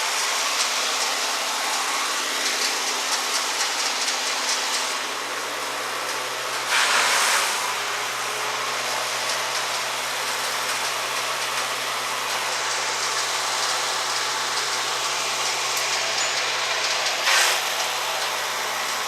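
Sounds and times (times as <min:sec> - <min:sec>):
wood chipper engine running: 0:00.0 - 0:19.0.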